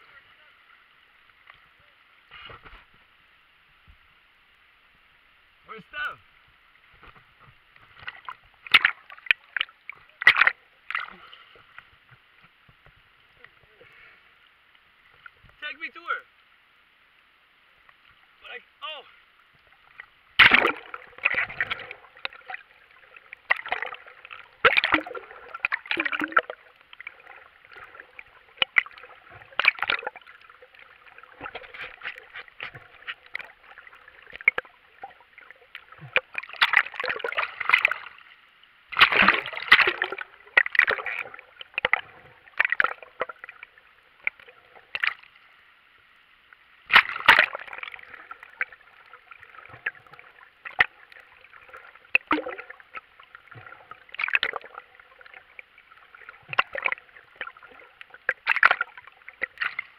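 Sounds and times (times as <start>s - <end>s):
sea water splashing and gurgling: 5.7s - 15.6s, 18.4s - 59.9s.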